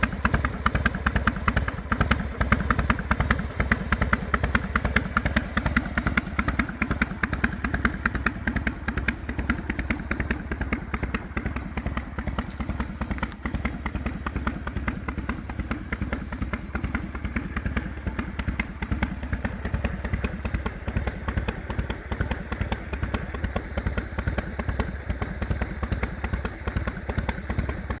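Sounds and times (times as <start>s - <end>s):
motorcycle v-twin idling: 0.0s - 28.0s.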